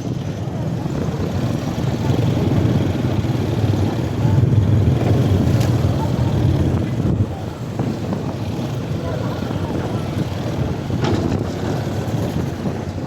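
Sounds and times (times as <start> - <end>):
ferry engine rumble: 0.0 - 13.0.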